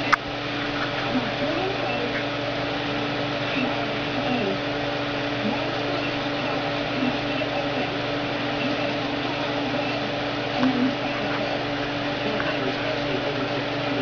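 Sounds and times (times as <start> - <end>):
machine hum and hiss: 0.0 - 14.0.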